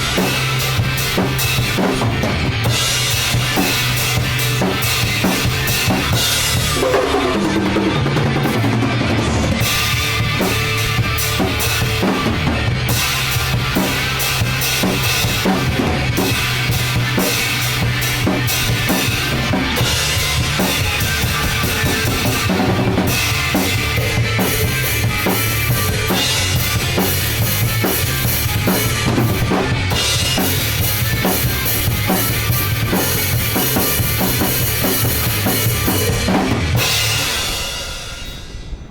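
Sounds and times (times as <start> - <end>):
hard rock music: 0.0 - 38.9
loud drum kit: 0.0 - 38.9.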